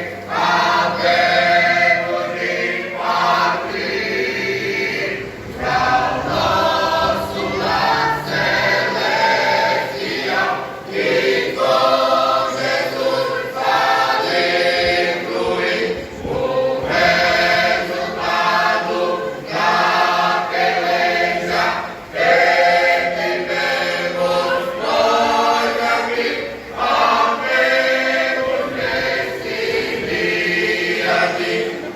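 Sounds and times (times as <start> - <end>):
choir singing a hymn: 0.0 - 31.9.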